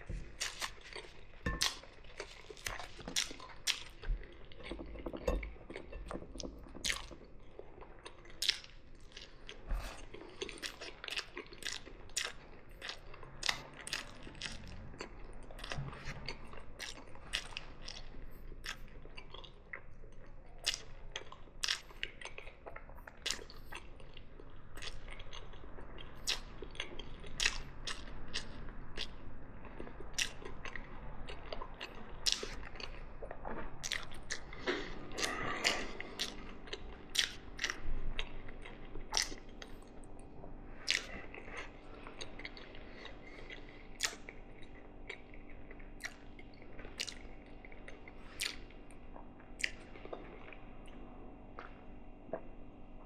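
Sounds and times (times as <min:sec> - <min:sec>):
person chewing food: 0:00.0 - 0:52.8.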